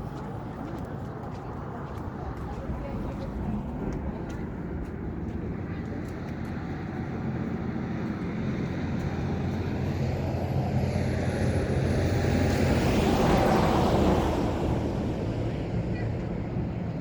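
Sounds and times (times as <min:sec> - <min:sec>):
coach engine and road rumble: 0:00.0 - 0:17.0.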